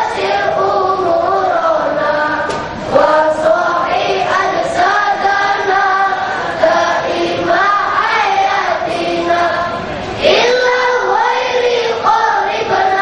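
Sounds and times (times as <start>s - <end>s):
boys chanting in unison: 0.0s - 13.0s.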